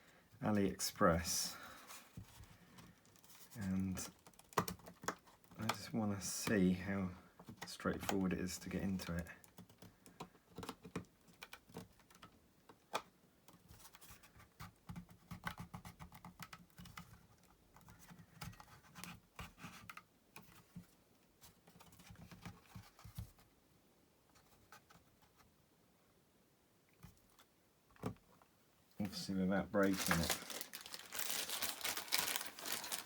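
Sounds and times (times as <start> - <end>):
hands handling plastic case: 1.8 - 6.6, 7.3 - 23.5, 27.0 - 33.0.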